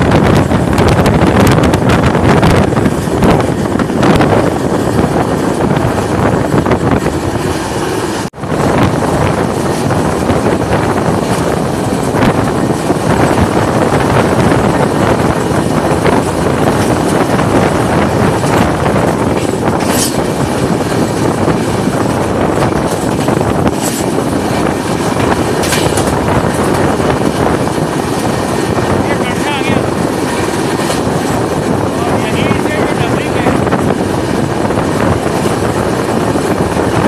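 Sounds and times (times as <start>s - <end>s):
train wheels rushing on rail: 0.0s - 37.0s
wind rushing: 0.0s - 37.0s.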